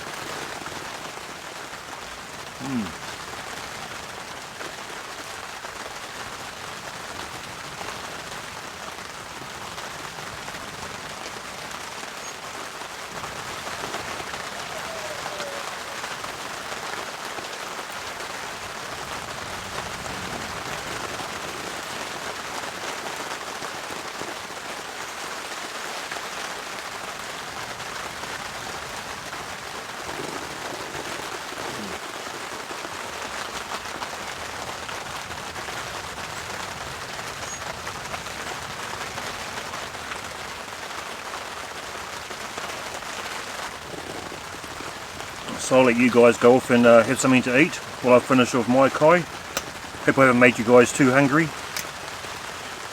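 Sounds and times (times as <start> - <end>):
heavy rain on a tarp: 0.0 - 52.9.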